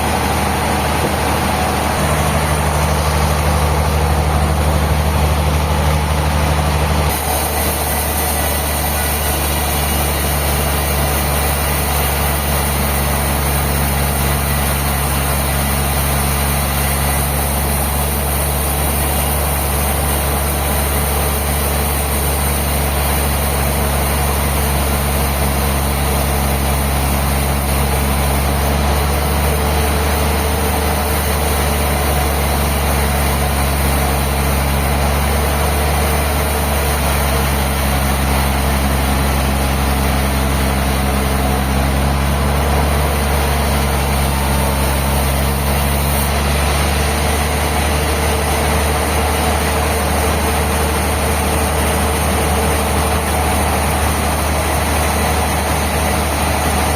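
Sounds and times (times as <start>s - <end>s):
sawmill machinery drone: 0.0s - 56.9s.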